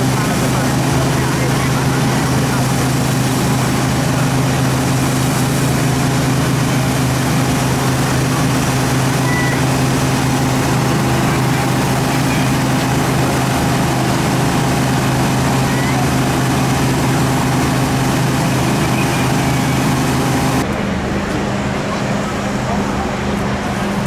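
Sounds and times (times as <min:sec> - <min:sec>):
engine running with low drone: 0:00.0 - 0:24.0.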